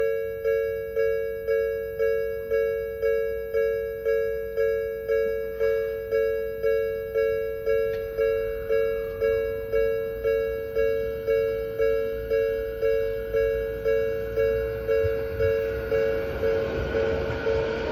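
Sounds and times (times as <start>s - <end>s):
level crossing warning bell: 0.0s - 17.9s.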